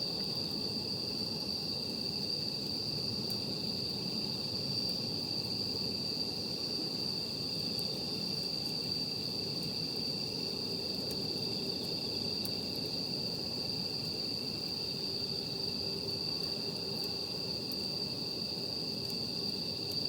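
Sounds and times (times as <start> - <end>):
campfire hiss and crackles: 0.0 - 20.0
night insects trilling: 0.0 - 20.0.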